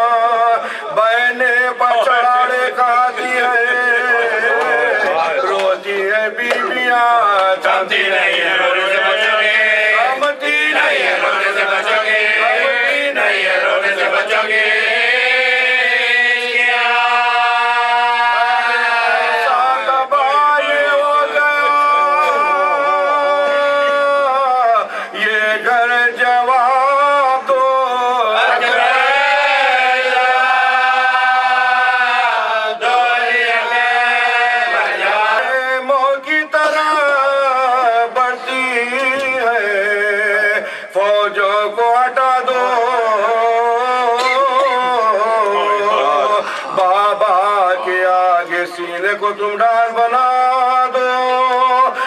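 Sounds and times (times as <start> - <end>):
man chanting into a microphone: 0.0 - 52.0.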